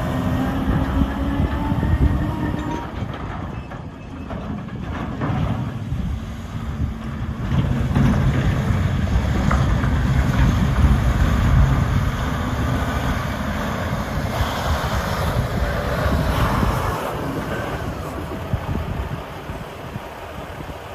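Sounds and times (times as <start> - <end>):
diesel engine rumbling: 0.0 - 20.9
wind noise on microphone: 0.0 - 20.9.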